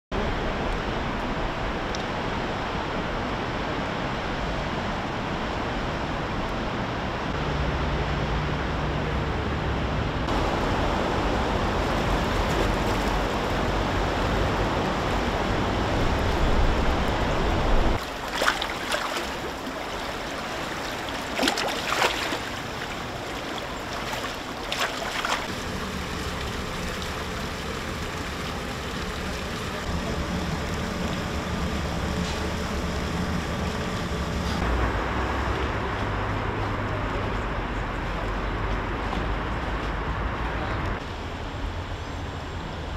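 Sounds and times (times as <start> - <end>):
river rushing water: 0.2 - 36.8.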